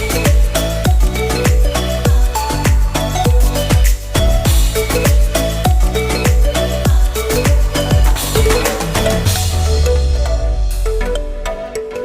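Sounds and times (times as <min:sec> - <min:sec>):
electronic dance music: 0:00.0 - 0:11.8
kick-drum beat: 0:00.3 - 0:10.4.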